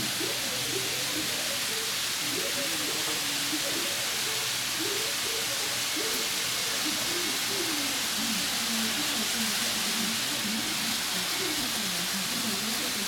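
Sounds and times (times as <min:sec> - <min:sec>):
faint indistinct voices: 0:00.0 - 0:13.0
model trains rolling hiss: 0:00.0 - 0:13.0.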